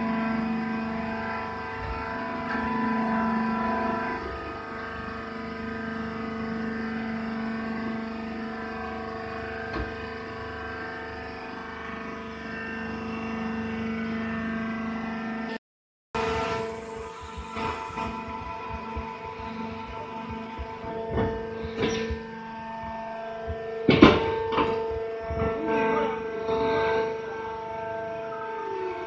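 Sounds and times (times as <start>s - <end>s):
hydraulic power unit humming: 0.0s - 15.6s, 16.2s - 29.0s.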